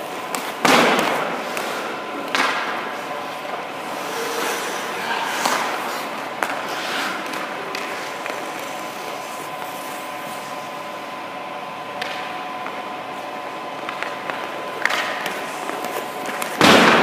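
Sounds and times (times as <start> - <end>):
skates scraping on ice: 0.0 - 11.0, 12.0 - 17.0
background hum with high tone: 0.0 - 17.0.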